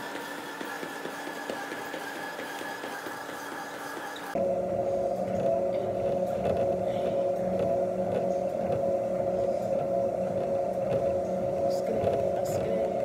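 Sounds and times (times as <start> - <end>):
cardio machine motor hum: 0.0 - 13.0
constant machine whine: 0.0 - 13.0.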